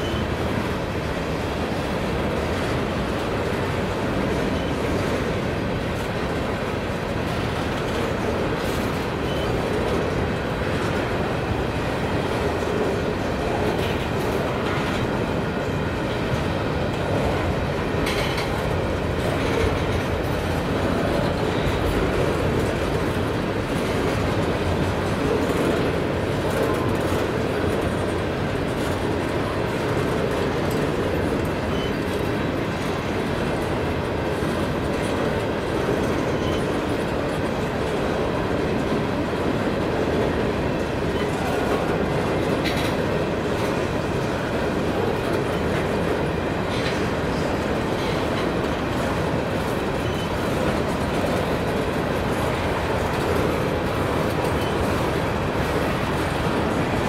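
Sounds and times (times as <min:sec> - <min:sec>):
train wheels clacking on rails: 0:00.0 - 0:57.0.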